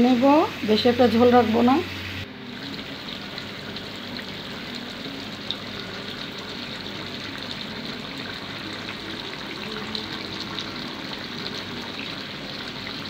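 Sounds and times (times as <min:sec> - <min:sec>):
curry bubbling and sizzling: 0:00.0 - 0:13.0.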